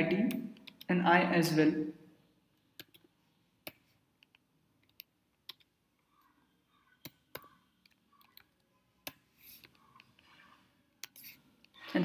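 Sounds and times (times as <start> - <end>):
faint keyboard typing: 0.3 - 0.9, 2.6 - 11.9.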